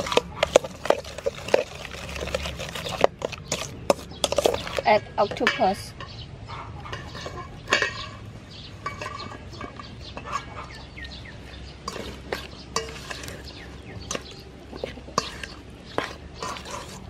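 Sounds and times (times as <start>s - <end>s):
metal spoon scraping steel bowl: 0.0s - 6.2s, 6.8s - 11.2s, 11.8s - 17.0s.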